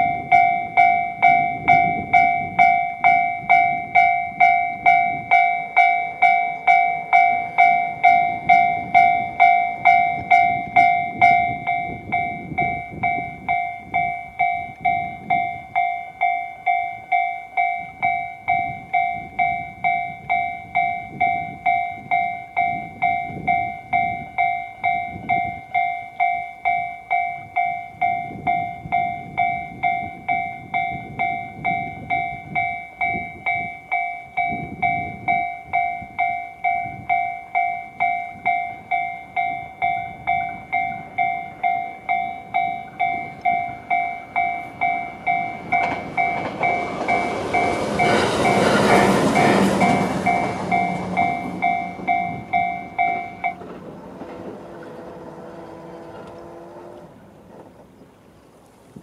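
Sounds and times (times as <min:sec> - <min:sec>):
level crossing bell ringing: 0:00.0 - 0:53.8
electric train passing: 0:00.0 - 0:59.0.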